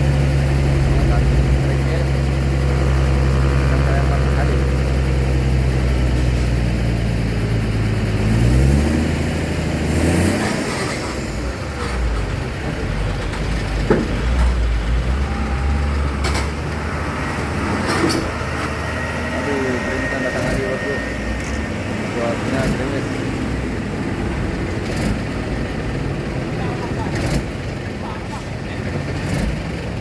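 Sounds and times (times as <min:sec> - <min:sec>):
truck engine revving and rumbling: 0:00.0 - 0:30.0.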